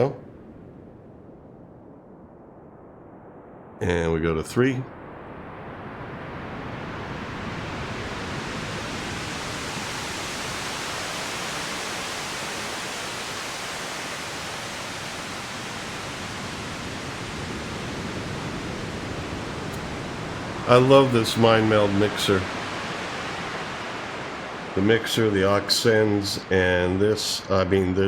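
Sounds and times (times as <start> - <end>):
synthesized ocean wave hiss: 4.9 - 28.0.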